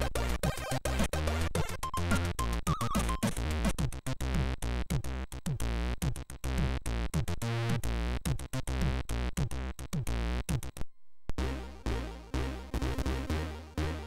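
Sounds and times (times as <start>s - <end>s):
chiptune music with beat: 0.0s - 10.8s, 11.4s - 14.0s.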